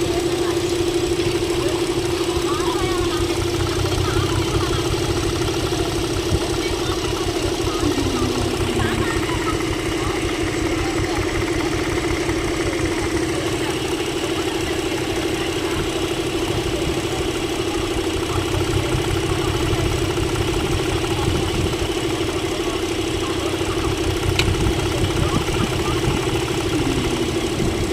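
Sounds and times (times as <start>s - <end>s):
car engine idling with a misfire: 0.0s - 27.9s.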